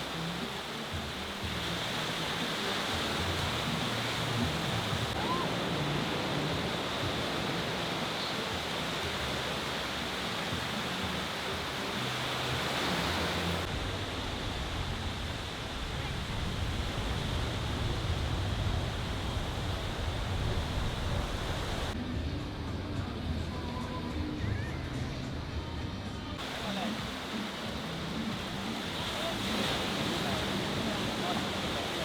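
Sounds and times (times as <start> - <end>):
sea water rushing: 0.0 - 22.0, 26.4 - 32.0
wind: 0.0 - 32.0.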